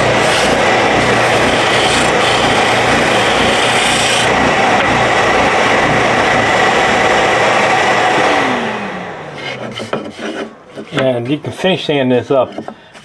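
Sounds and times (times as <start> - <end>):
power sander rasping on wood: 0.0 - 8.5, 9.2 - 13.0.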